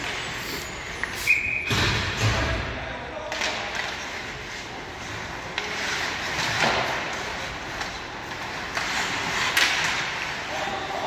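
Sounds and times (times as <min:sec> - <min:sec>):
skates scraping ice: 0:00.0 - 0:02.3, 0:03.2 - 0:11.0
hockey sticks hitting puck: 0:00.0 - 0:11.0.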